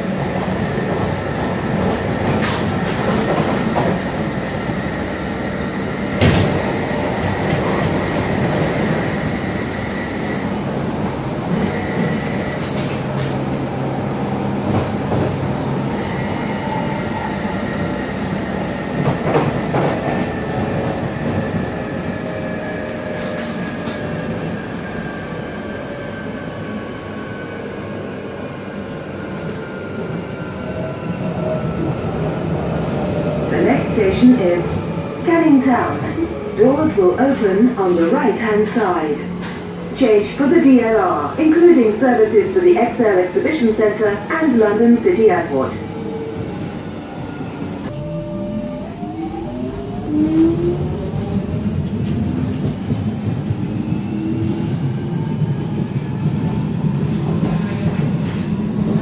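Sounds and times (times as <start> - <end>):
underground train rumble: 0.0 - 59.0.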